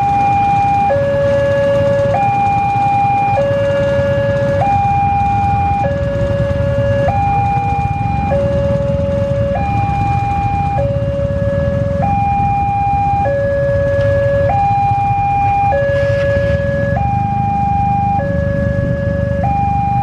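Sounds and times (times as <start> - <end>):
motorcycle engines idling: 0.0 - 20.0
two-tone level crossing alarm: 0.0 - 20.0.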